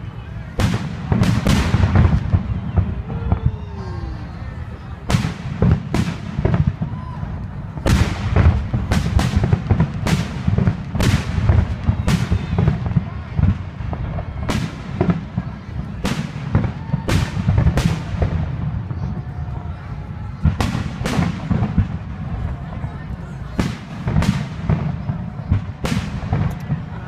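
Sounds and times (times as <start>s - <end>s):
fireworks bangs echoing: 0.0s - 27.0s.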